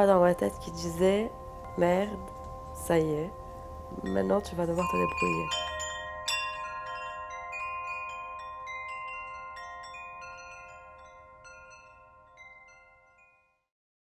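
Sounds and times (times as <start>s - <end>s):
chimes ringing: 0.0s - 13.6s.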